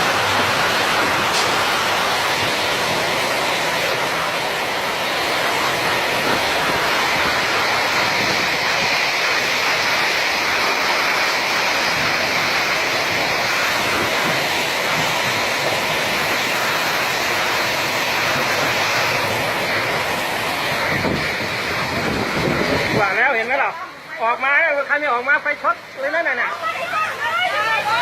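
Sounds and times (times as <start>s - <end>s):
strong storm wind blowing: 0.0s - 23.5s.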